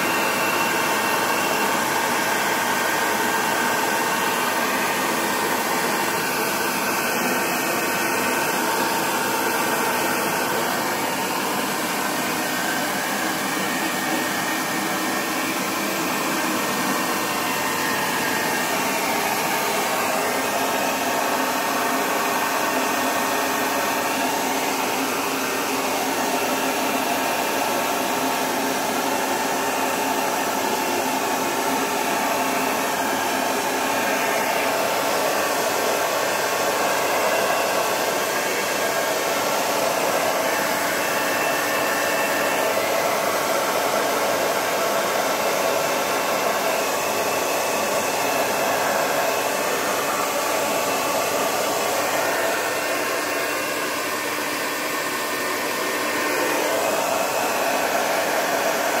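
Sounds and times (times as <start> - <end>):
hair dryer blowing air: 0.0 - 59.0.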